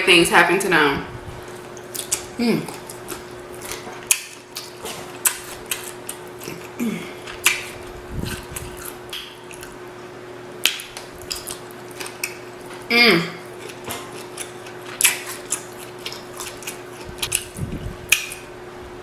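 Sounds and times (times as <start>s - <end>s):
wet chewing smacks: 1.5s - 9.8s, 10.6s - 18.5s.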